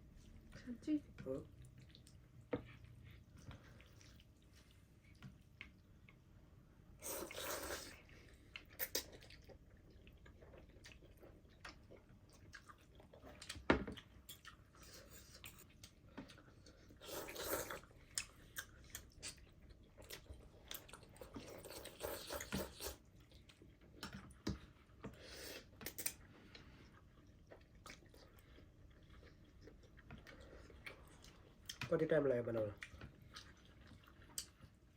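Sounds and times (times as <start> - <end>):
people chewing and eating: 0.0 - 34.9.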